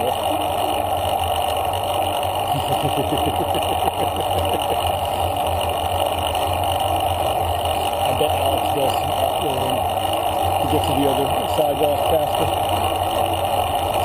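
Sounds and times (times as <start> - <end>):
bicycle rolling noise: 0.0 - 14.0.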